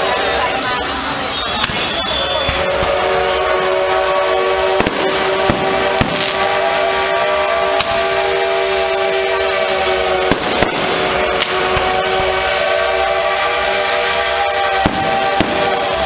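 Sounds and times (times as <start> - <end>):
fireworks bangs: 0.0 - 16.0
train whistle: 0.0 - 16.0.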